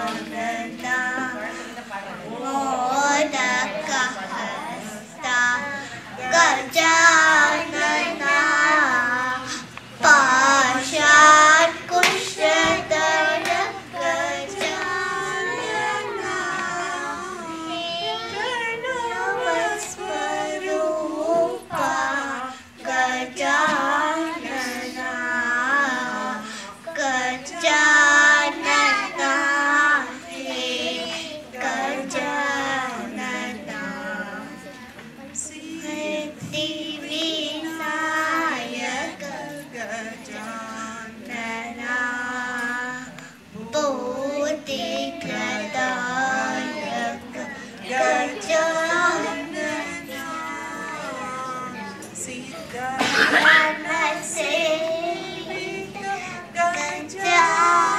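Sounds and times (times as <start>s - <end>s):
girls singing into a microphone: 0.0s - 57.9s.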